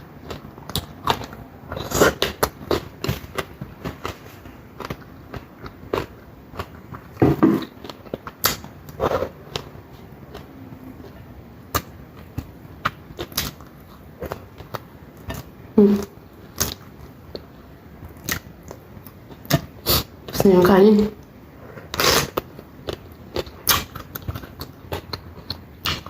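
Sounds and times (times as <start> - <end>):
chewing and crunching: 0.1 - 15.6, 16.3 - 20.4, 21.7 - 26.0.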